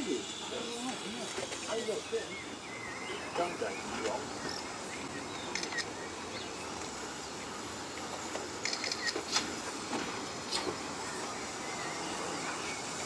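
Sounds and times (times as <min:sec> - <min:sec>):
steam locomotive running: 0:00.0 - 0:13.0.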